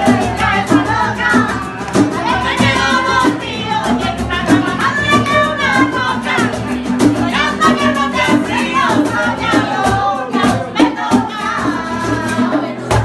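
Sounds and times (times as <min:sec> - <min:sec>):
women singing: 0:00.0 - 0:13.0.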